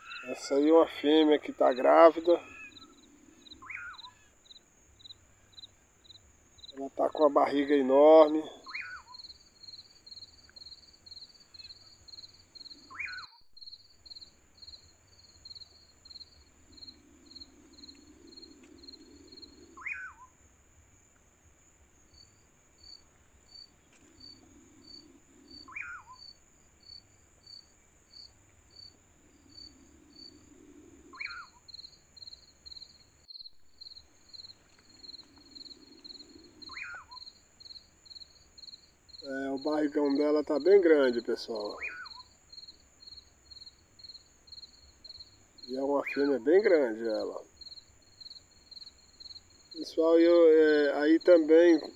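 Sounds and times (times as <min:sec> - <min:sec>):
insects chirping in pulses: 0:00.0 - 0:51.9
insects trilling: 0:00.0 - 0:51.9.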